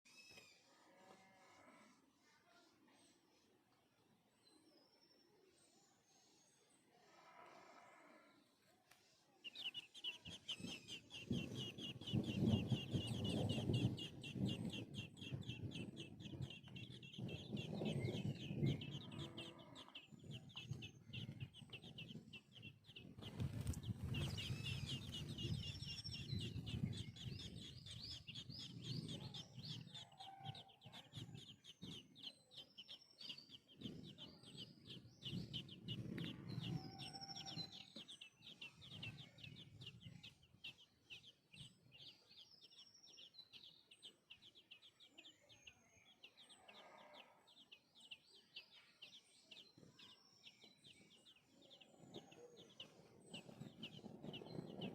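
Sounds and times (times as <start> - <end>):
birds chirping: 3.0 - 54.9.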